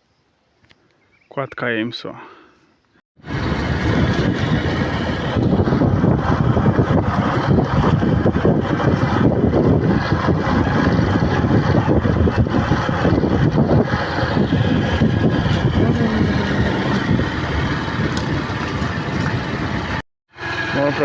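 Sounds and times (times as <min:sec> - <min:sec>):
wind buffeting microphone: 0:03.2 - 0:20.0
vehicle road noise: 0:03.2 - 0:21.0.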